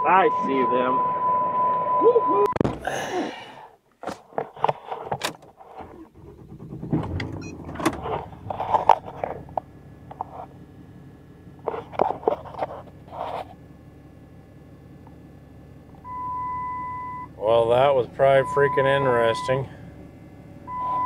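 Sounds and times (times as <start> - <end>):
truck engine starting and running: 0.0 - 21.0.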